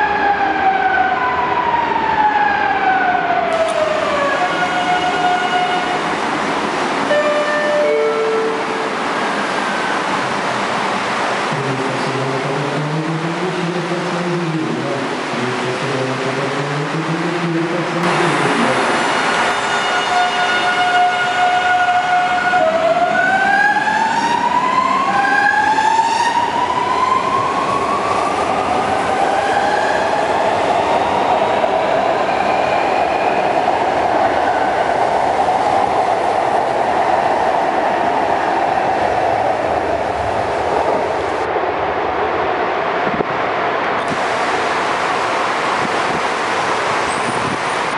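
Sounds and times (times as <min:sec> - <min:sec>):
train rolling rumble: 0:03.4 - 0:47.9.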